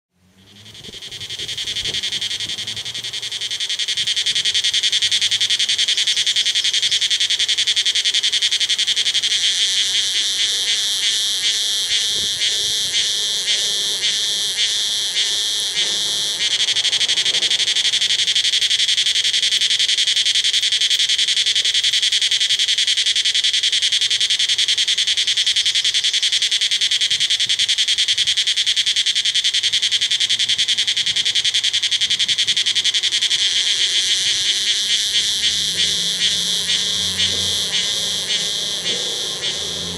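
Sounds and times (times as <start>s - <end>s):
cicada buzzing: 0.2s - 39.9s.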